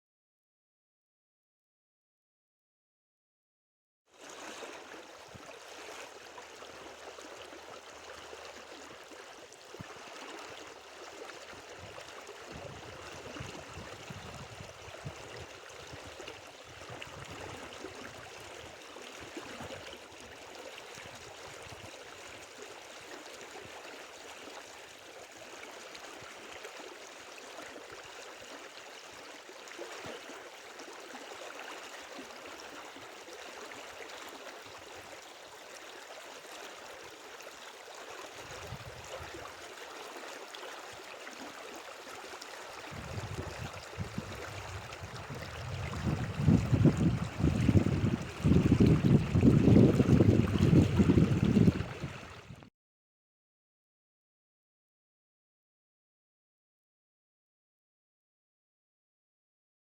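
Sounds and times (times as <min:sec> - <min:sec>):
river water rushing and gurgling: 0:04.2 - 0:52.5.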